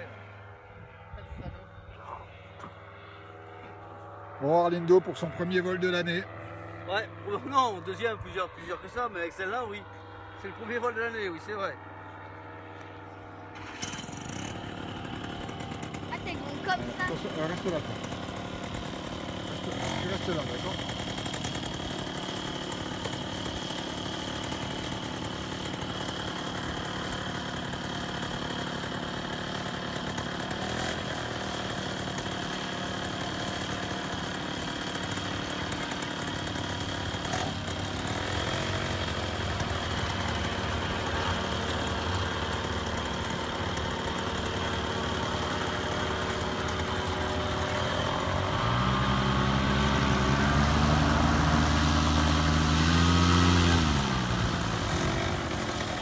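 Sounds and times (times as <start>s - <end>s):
paramotor engine idling and revving: 0.0s - 56.0s.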